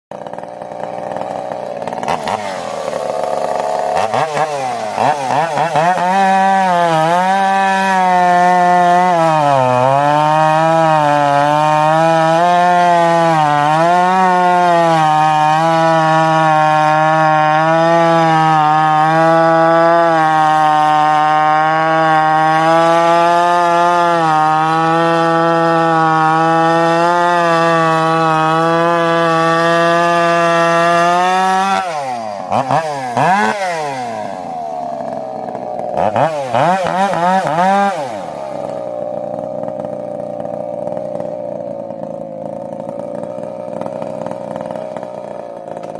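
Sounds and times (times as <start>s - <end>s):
chainsaw engine revving: 0.1s - 45.9s.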